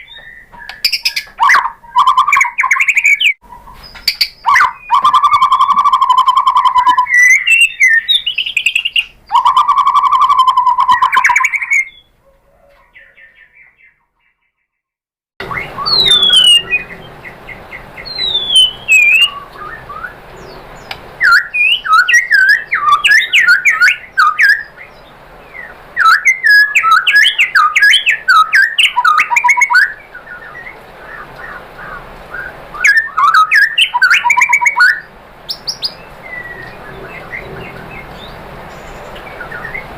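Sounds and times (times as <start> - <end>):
bird singing: 0.0 - 14.6, 15.4 - 39.9.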